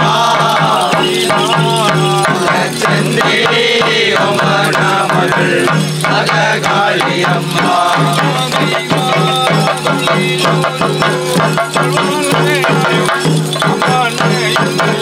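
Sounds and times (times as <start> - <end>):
men chanting: 0.0 - 15.0
rapid hand drum beating: 0.0 - 15.0.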